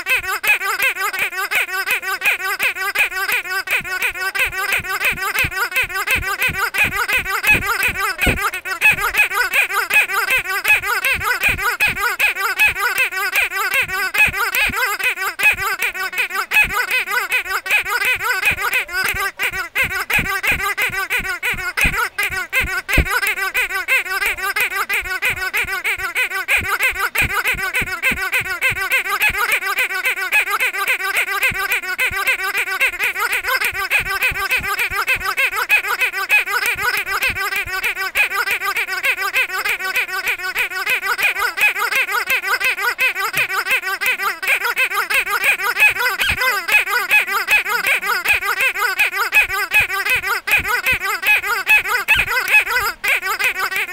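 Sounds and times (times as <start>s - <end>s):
rubber dog toy squeaking: 0.0s - 53.9s.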